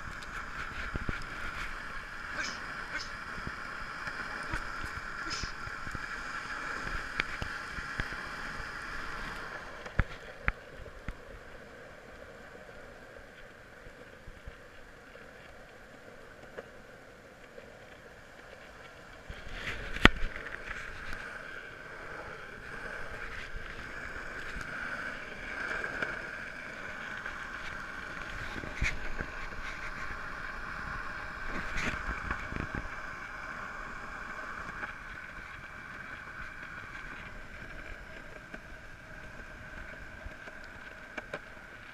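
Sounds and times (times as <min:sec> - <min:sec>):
skateboard wheels rolling on concrete: 0:00.0 - 0:41.9.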